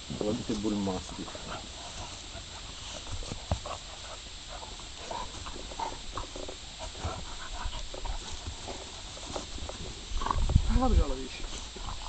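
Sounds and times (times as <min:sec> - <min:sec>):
puppies growling while play-fighting: 0:00.4 - 0:12.0.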